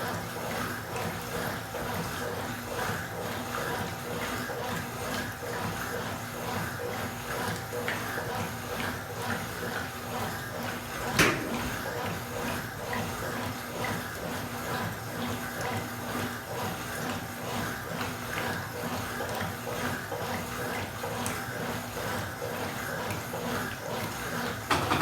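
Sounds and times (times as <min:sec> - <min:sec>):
water running into washing machine: 0:00.0 - 0:25.0.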